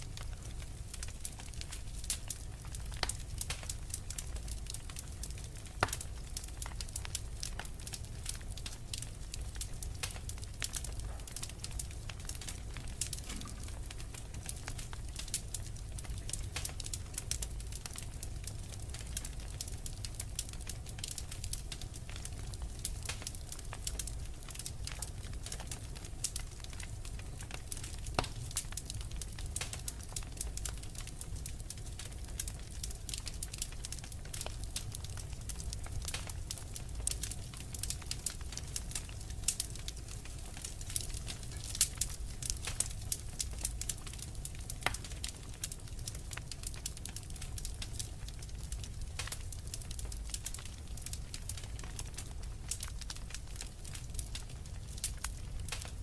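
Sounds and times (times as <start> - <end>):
low rumble of fire flames: 0.0 - 56.0
wood fire crackling and popping: 0.0 - 56.0.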